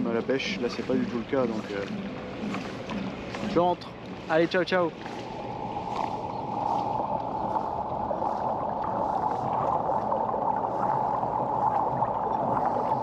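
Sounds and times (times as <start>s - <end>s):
steady mid-pitched hum: 0.0s - 13.0s
water splashing against kayak hull: 0.0s - 13.0s.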